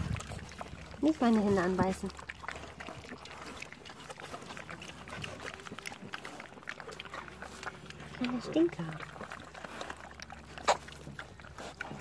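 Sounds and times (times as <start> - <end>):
piglet chewing wetly: 0.0 - 12.0.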